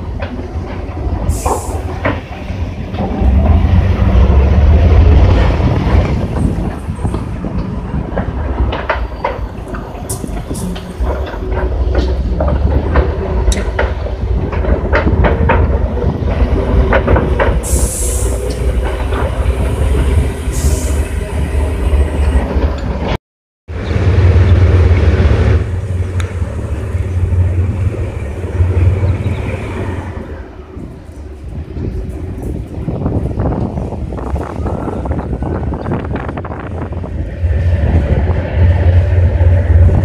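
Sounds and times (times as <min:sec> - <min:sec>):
heavy engines rumbling: 0:00.0 - 0:40.0.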